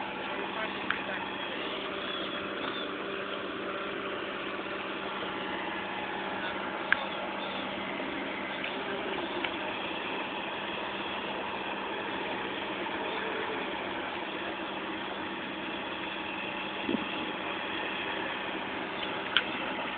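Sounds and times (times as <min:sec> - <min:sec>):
bulldozer engine running: 0:00.0 - 0:19.9.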